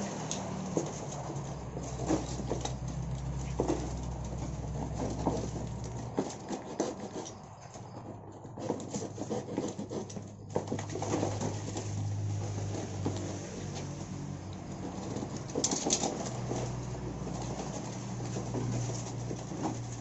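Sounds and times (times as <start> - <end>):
birds scratching and tapping: 0.0 - 20.0.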